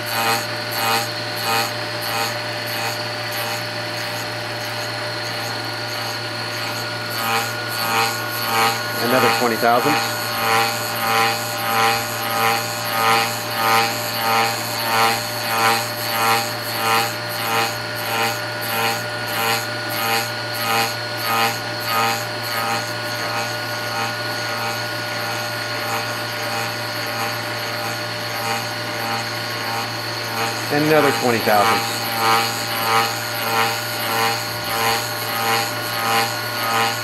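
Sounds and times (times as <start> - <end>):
lathe cutter cutting wood: 0.0 - 37.0
motor whine: 0.0 - 37.0.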